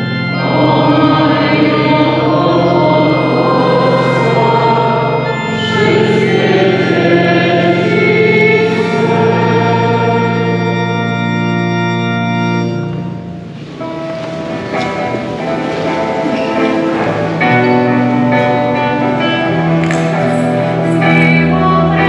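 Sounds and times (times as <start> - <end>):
church organ chords: 0.0 - 22.0
voices singing a hymn: 0.0 - 22.0.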